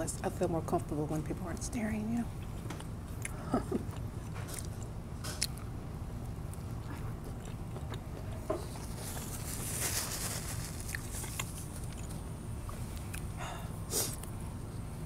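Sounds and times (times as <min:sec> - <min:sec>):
steady low hum: 0:00.0 - 0:15.0
soft chewing: 0:01.5 - 0:15.0.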